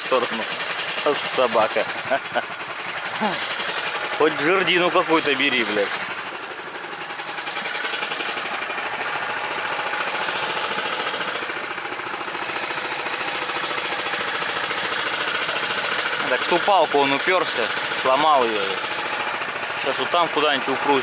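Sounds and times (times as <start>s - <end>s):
small engine clattering: 0.0s - 21.0s.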